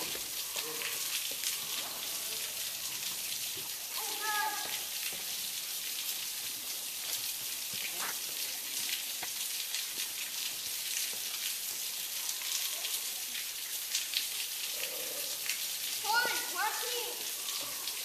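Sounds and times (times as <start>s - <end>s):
waterfall hissing: 0.0s - 13.2s, 14.1s - 18.0s.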